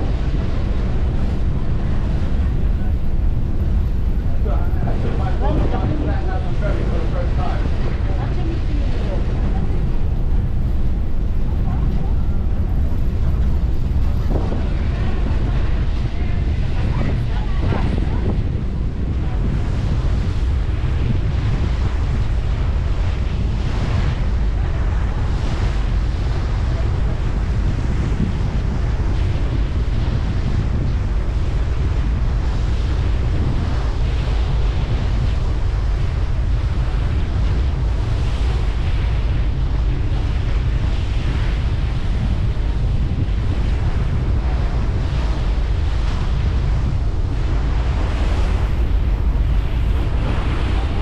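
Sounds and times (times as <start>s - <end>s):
rushing water: 0.0s - 51.0s
wind buffeting microphone: 0.0s - 51.0s.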